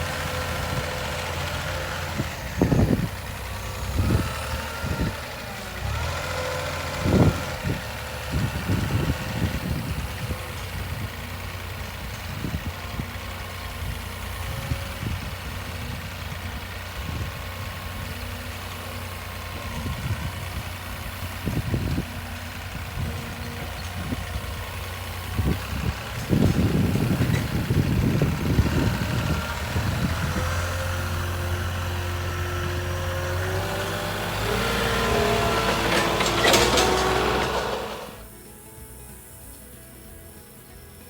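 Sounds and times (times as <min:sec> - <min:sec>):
heavy vehicle engine idling: 0:00.0 - 0:41.0.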